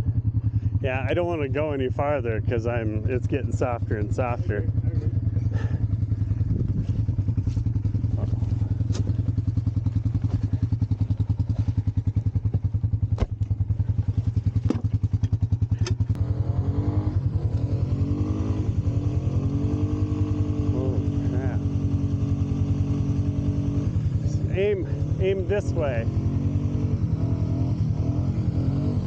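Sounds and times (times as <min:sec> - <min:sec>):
vehicle engine throbbing: 0:00.0 - 0:29.0
engine revving: 0:00.7 - 0:29.0.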